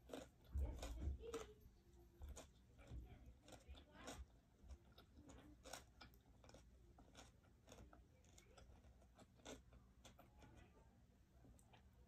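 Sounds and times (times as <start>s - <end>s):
faint chewing with mouth clicks: 0.0s - 12.0s.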